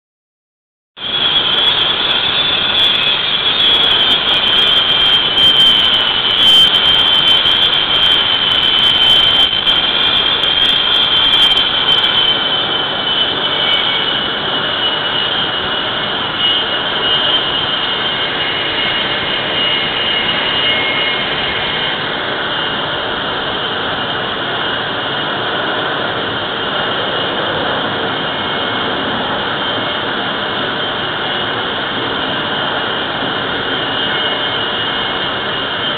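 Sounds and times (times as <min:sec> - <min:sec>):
jet engines roaring: 0:01.0 - 0:35.9.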